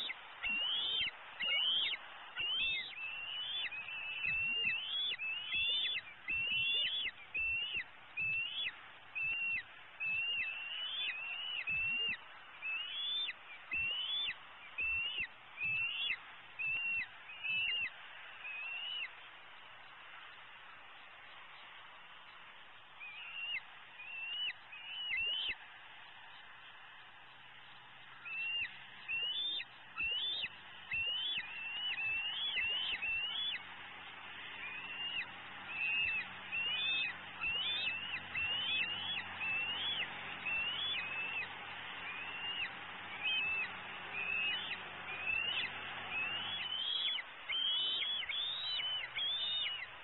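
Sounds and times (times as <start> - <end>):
eagle whistled calls: 0.0 - 19.2, 23.0 - 25.6, 28.1 - 33.7, 34.5 - 50.0.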